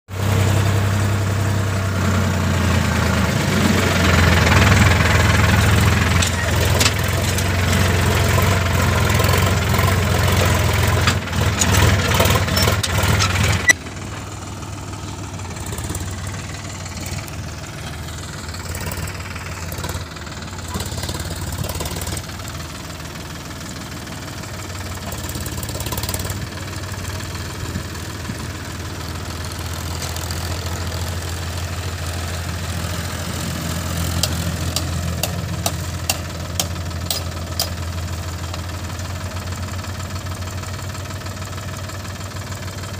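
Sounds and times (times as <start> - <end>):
diesel tractor engine running: 0.1 - 42.9.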